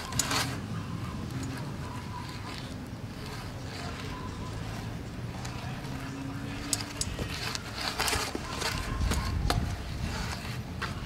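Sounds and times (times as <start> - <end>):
bike clicks and knocks: 0.0 - 11.0.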